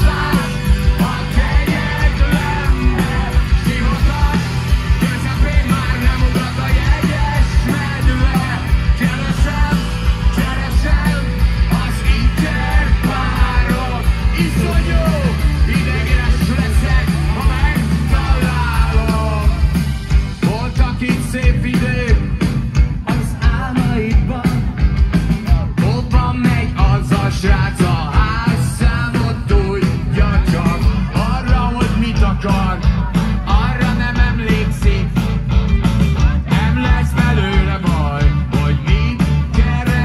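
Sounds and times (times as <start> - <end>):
drumbeat: 0.0 - 40.0
electric guitar: 0.0 - 40.0
heavy bass: 0.0 - 40.0
voices shouting and singing: 0.0 - 40.0.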